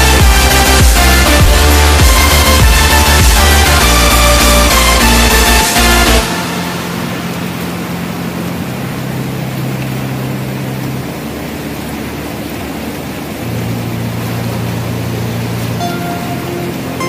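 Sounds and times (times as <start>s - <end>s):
higher melody: 0.0s - 17.0s
low held chords: 0.0s - 17.0s
steady rushing noise: 0.0s - 17.0s.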